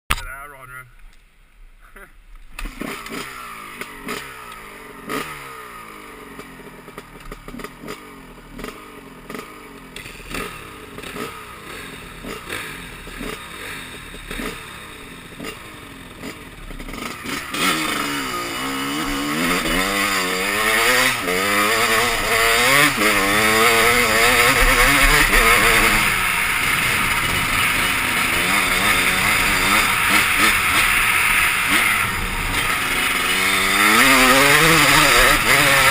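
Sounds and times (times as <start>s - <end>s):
dirt bike engine revving: 2.6s - 35.9s.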